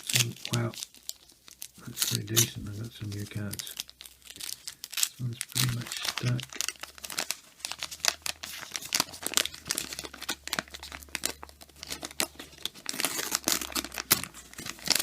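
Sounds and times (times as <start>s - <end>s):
paper wrapper crinkling and tearing: 0.0s - 15.0s.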